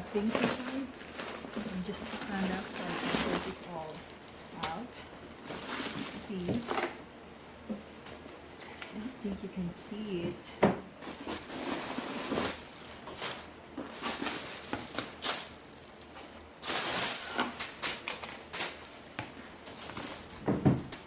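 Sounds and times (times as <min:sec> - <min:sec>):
packing stuffing rustling: 0:00.0 - 0:07.0, 0:11.0 - 0:21.0.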